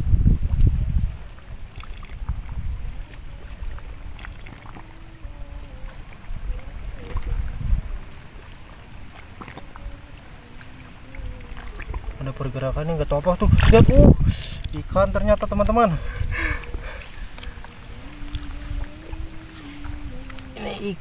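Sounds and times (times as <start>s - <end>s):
wind rumble on microphone: 0.0s - 21.0s
shallow water sloshing: 0.6s - 21.0s
small splashes: 1.2s - 21.0s.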